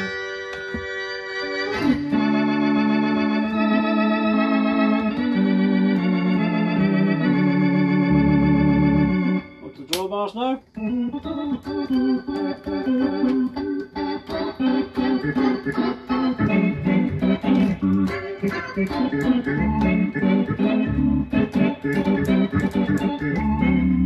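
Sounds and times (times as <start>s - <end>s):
organ chords through rotary speaker: 0.0s - 9.9s, 10.6s - 24.0s
low bass notes: 1.7s - 9.6s, 10.8s - 24.0s.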